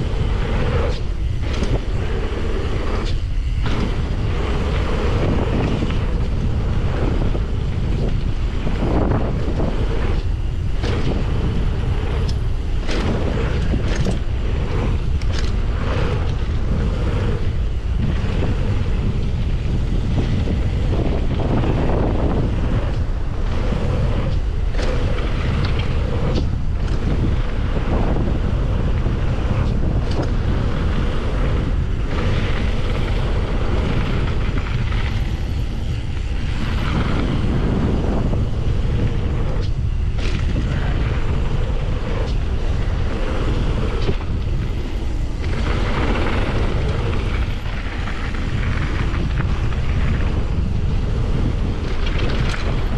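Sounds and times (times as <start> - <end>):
bike knocking and rattling: 0.0 - 52.9
tyres rumbling on dirt: 0.0 - 52.9
wind buffeting microphone: 0.0 - 52.9.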